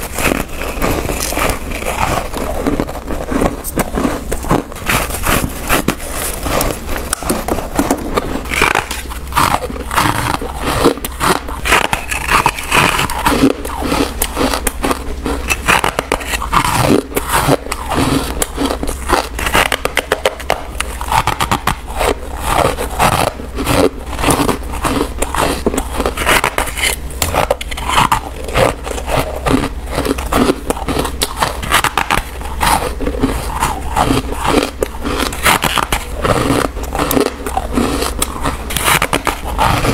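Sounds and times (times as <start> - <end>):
crunchy chewing of frost: 0.0 - 39.9.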